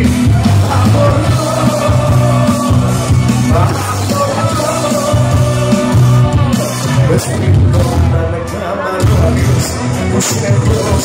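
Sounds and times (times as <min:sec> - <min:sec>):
live pop band playing: 0:00.0 - 0:11.0
steady bass line: 0:00.0 - 0:11.0.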